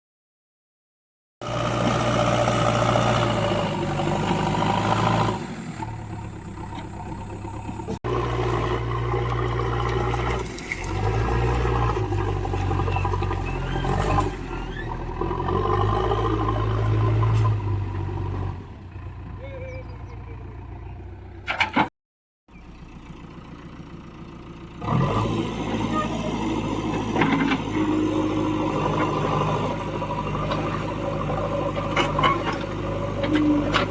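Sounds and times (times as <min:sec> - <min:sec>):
diesel engine running: 0:01.4 - 0:21.7, 0:22.5 - 0:33.9.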